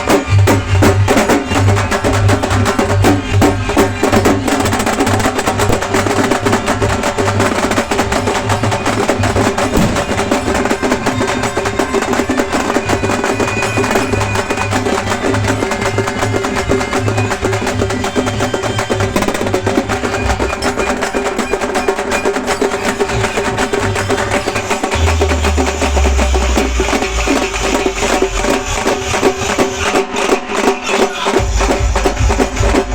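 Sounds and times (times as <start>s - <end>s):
frame drums beaten with sticks: 0.0s - 32.9s.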